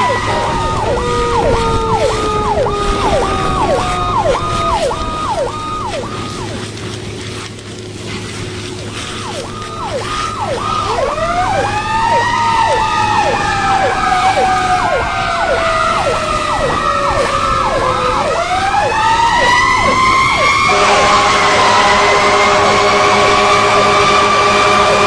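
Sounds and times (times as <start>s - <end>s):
siren yelping: 0.0s - 6.8s, 8.7s - 25.0s
siren wailing: 0.0s - 7.5s, 8.3s - 25.0s
steady low hum: 0.0s - 25.0s.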